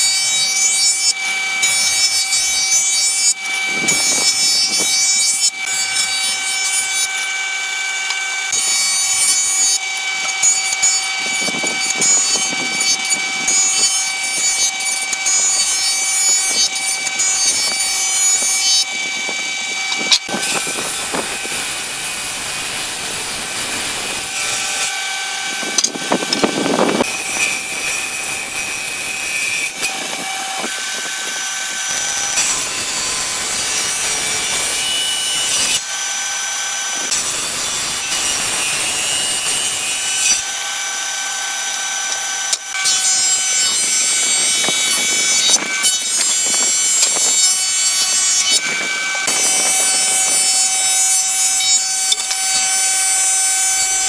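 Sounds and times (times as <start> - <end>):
table saw ripping boards: 0.0 - 54.0
thickness planer cutting board: 0.0 - 54.0.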